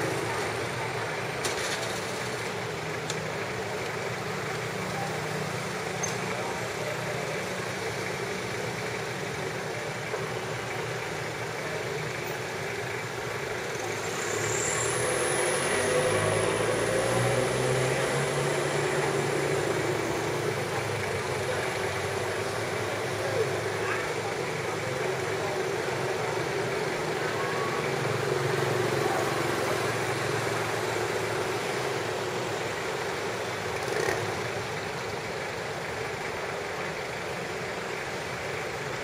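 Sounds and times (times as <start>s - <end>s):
engine running: 0.0s - 39.0s
street noise: 0.0s - 39.0s.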